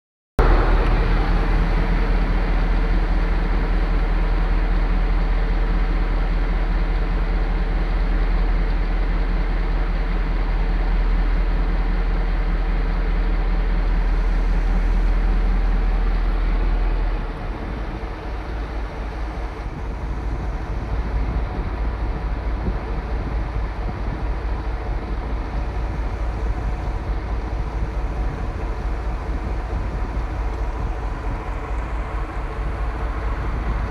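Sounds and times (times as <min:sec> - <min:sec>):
heavy machine engine rumbling: 0:00.4 - 0:09.3, 0:10.5 - 0:33.9.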